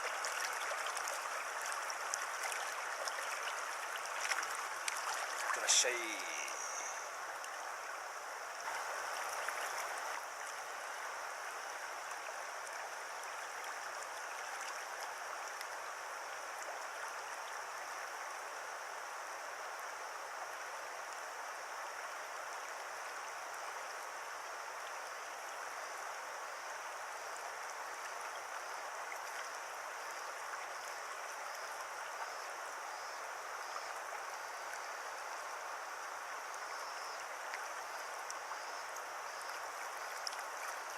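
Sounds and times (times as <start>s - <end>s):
river water flowing over riffle: 0.0s - 40.9s.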